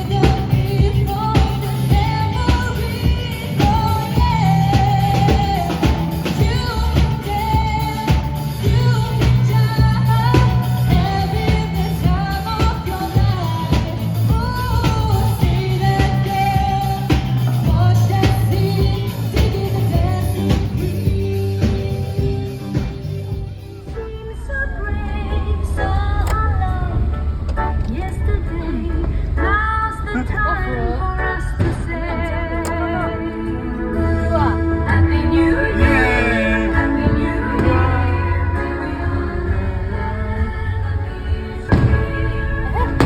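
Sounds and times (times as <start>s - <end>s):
pop-rock song with singing: 0.0s - 43.0s.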